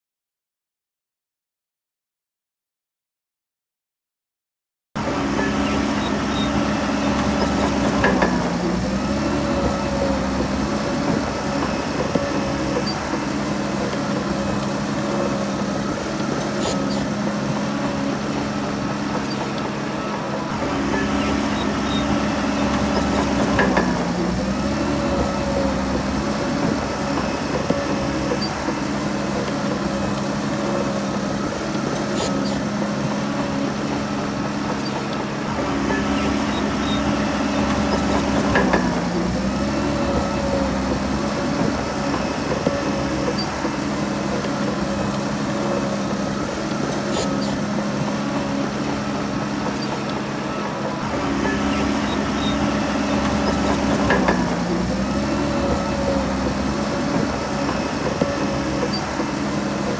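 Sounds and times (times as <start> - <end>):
bulldozer diesel engine running: 5.0 - 59.9.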